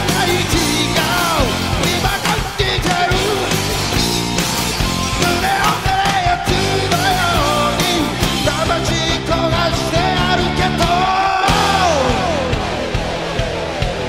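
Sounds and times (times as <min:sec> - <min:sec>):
bass guitar: 0:00.0 - 0:14.0
distorted electric guitars: 0:00.0 - 0:14.0
drums: 0:00.0 - 0:14.0
sustained lead guitar bending: 0:00.0 - 0:14.0.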